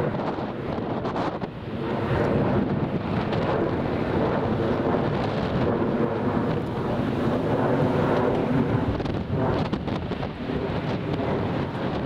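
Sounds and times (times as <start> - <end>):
jet engines roaring overhead: 0.0 - 12.0
wind buffeting microphone: 0.0 - 12.0.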